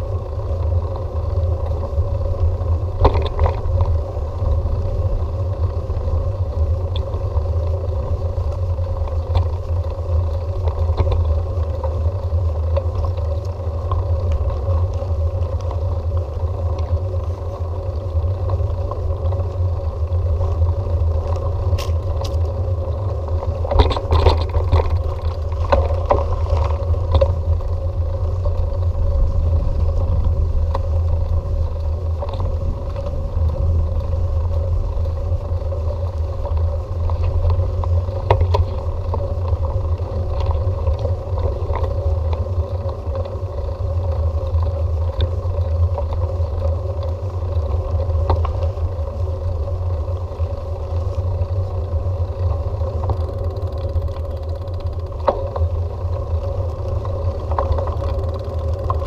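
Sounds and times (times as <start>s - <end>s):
bicycle rolling rumble: 0.0s - 59.0s
faint steady hum: 0.0s - 59.0s
small clicks and rattles: 0.0s - 59.0s.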